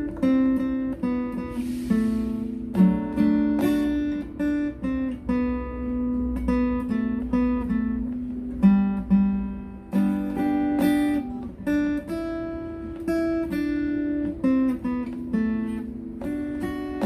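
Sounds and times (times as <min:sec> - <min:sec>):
guitar picking slow melody: 0:00.0 - 0:17.0.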